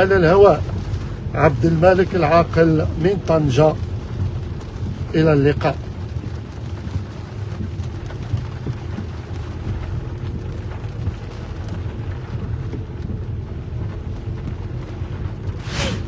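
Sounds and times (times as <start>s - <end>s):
heavy rain on car windscreen: 0.0s - 16.0s
low rumble of engine and tyres: 0.0s - 16.0s.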